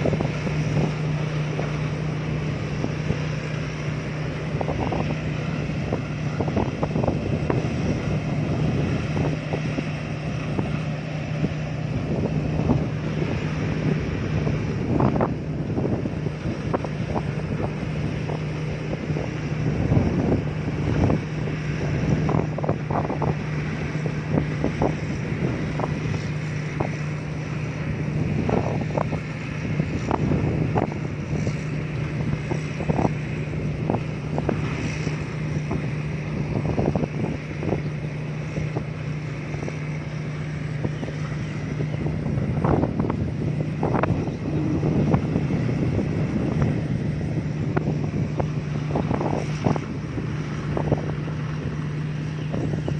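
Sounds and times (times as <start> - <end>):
combine harvester engine humming: 0.0 - 52.9
wind noise on microphone: 0.0 - 52.9.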